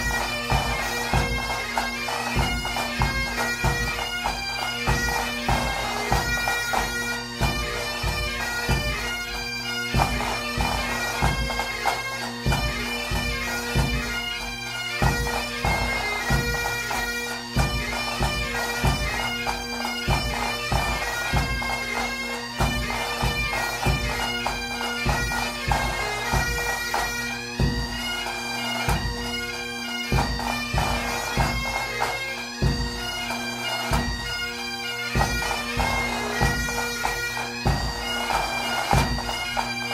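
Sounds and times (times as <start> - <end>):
drum beating: 0.0 - 14.2, 15.0 - 34.5, 35.1 - 39.9
bagpipe melody with drones: 0.0 - 39.9.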